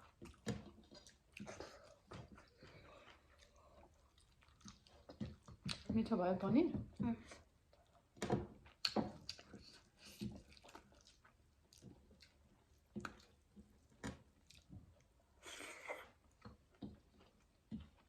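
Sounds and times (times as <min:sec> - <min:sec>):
chewing and lip smacks: 0:00.0 - 0:05.9, 0:07.7 - 0:18.0.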